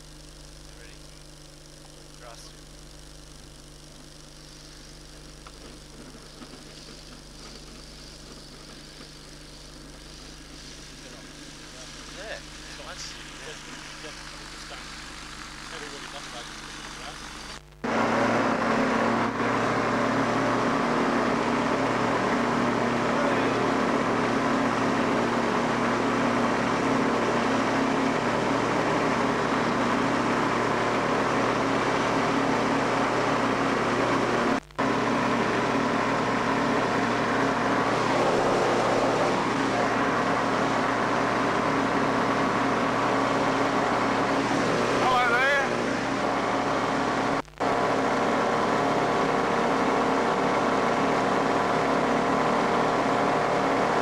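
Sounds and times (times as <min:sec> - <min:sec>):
ultralight engine and propeller: 0:00.0 - 0:54.0.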